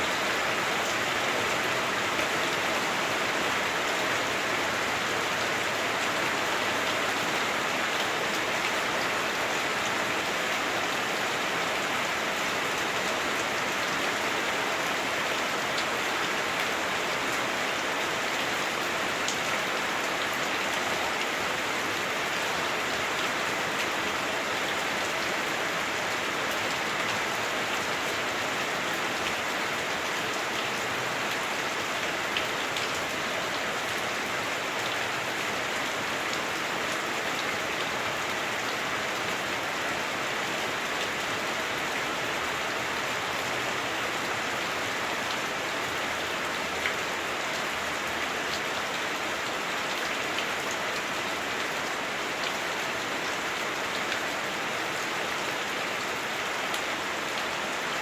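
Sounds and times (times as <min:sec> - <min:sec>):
heavy rain drumming on roof: 0:00.0 - 0:58.0.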